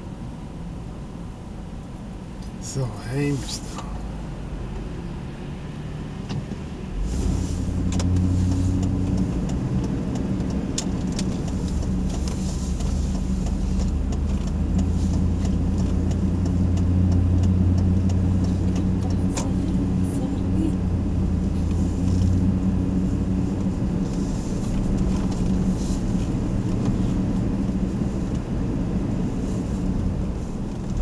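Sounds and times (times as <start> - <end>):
suv engine pulling away: 2.4 - 31.0.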